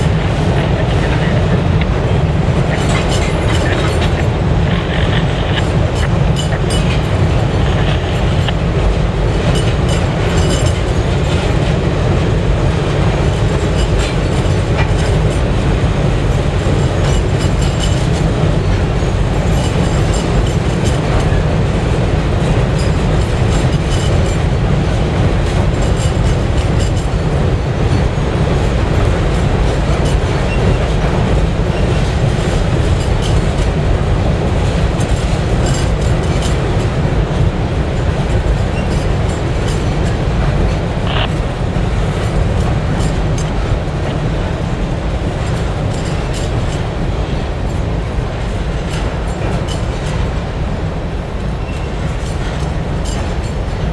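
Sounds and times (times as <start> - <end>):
freight train rumbling over bridge: 0.0 - 53.9
wheels clicking over rail joints: 0.0 - 53.9.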